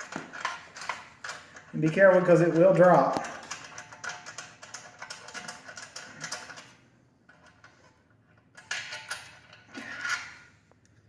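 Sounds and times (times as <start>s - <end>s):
metal parts rattling: 0.0s - 10.5s.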